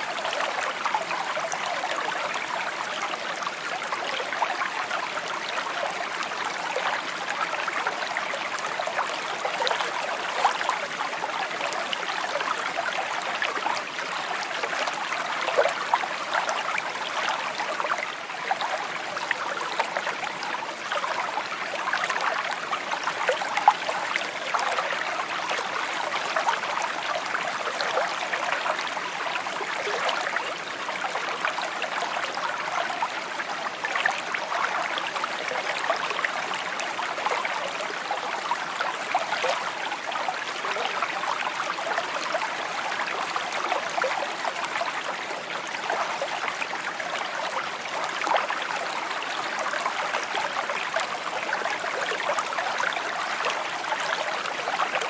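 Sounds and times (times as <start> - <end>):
creek burbling over stones: 0.0 - 55.0.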